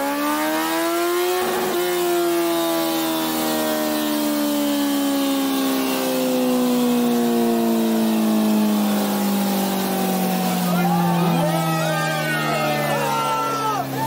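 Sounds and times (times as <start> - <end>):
motorcycle engine revs falling: 0.0 - 14.0.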